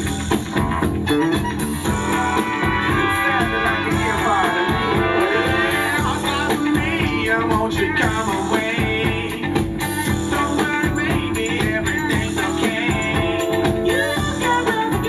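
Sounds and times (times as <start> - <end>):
funk music with singing: 0.0 - 15.0.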